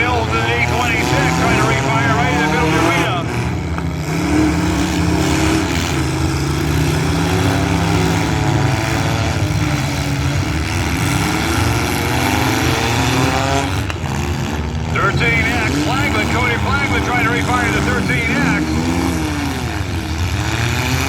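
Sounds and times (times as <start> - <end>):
car engines running: 0.0 - 21.0
engine revving: 0.0 - 21.0.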